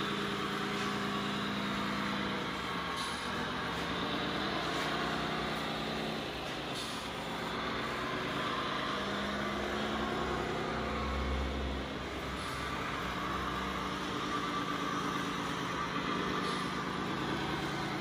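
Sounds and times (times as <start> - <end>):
model truck mechanical drone: 0.0 - 18.0.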